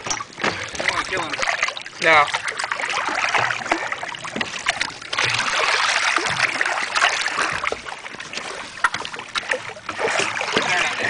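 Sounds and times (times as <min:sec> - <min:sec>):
water splashing against boat hull: 0:00.0 - 0:11.0.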